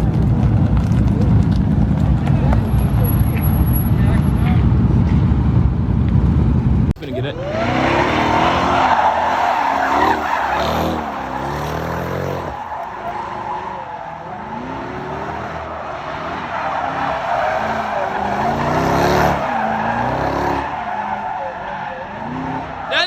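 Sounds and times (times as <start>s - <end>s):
car engine revving: 0.0s - 23.0s
tyres squealing and skidding: 2.1s - 4.7s, 7.0s - 23.0s.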